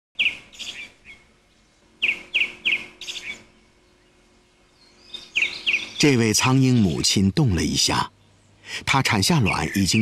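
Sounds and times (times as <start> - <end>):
bird chirping: 0.2 - 10.0.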